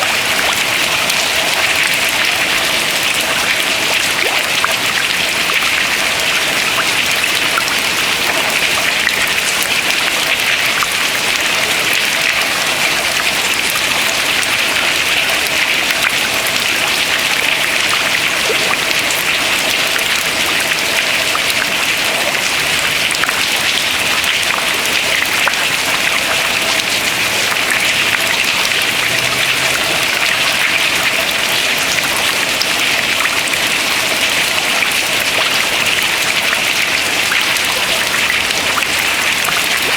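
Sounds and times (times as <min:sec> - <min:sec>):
water dripping into river: 0:00.0 - 0:39.9.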